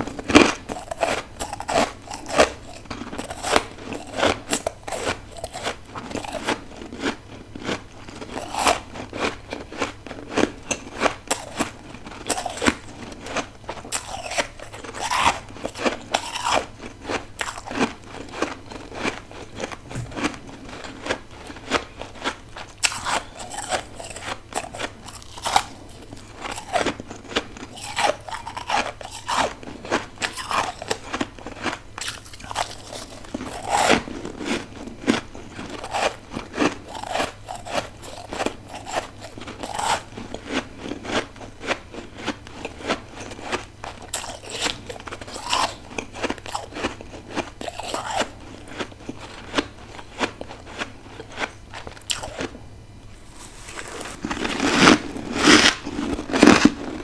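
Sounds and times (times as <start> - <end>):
crunchy chewing of frost: 0.0 - 57.0.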